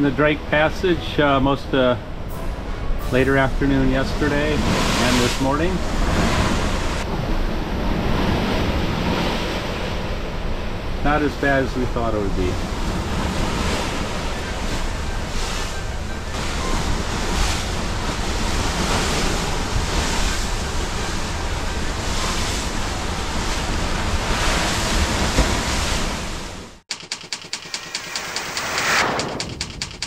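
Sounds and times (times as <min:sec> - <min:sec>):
ship's wake rushing: 0:00.0 - 0:26.8
ocean waves breaking: 0:02.0 - 0:26.8.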